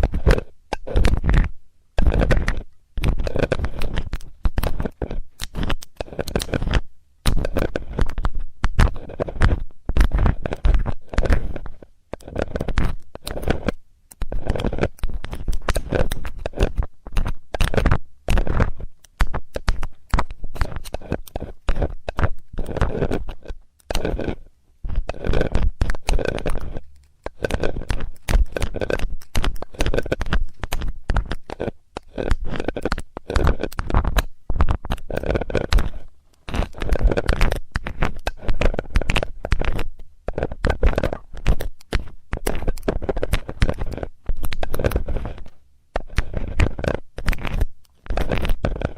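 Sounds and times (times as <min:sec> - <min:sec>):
metal tool scratching: 0:00.0 - 0:48.9.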